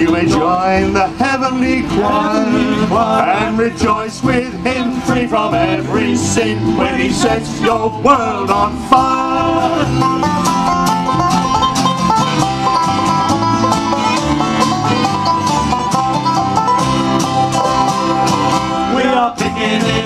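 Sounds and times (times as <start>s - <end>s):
banjo picking: 0.0s - 20.0s
plucked upright bass: 0.0s - 20.0s
strummed acoustic guitar: 0.0s - 20.0s.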